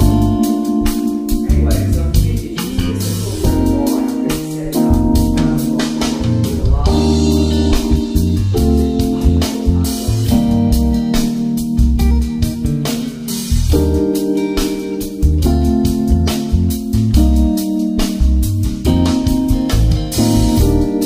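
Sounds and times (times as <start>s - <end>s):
background music with drum beat: 0.0s - 21.0s.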